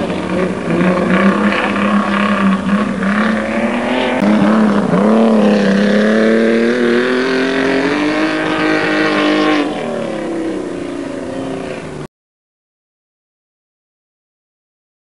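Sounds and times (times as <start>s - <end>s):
race car engine: 0.0s - 12.1s.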